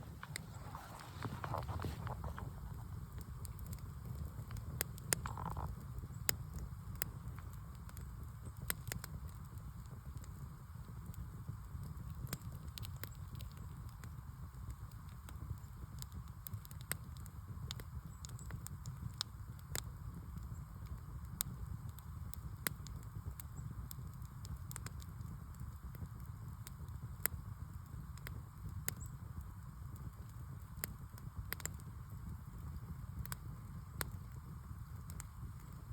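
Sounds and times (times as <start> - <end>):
fire crackling and popping: 0.0 - 35.9
fire rumbling: 0.0 - 35.9.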